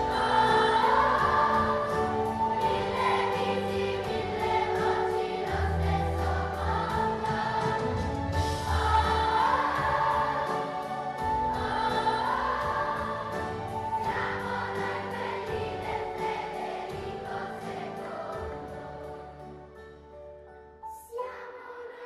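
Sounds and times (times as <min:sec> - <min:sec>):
children's choir singing: 0:00.0 - 0:19.7.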